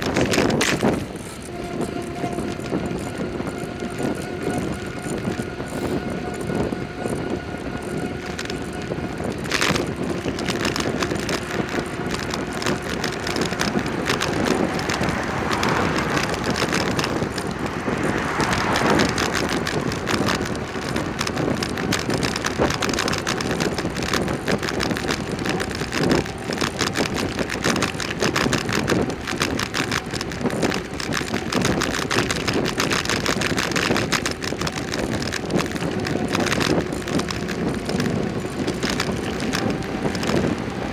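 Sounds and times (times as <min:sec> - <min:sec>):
bicycle tyre road noise: 0:00.0 - 0:40.9
wind on microphone: 0:00.0 - 0:40.9.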